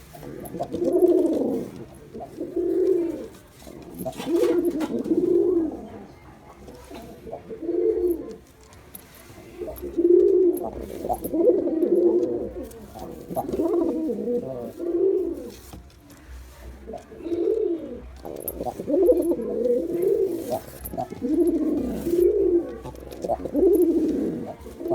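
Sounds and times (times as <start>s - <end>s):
pigeon cooing: 0.0s - 6.1s, 6.7s - 8.4s, 9.3s - 15.7s, 16.8s - 24.9s.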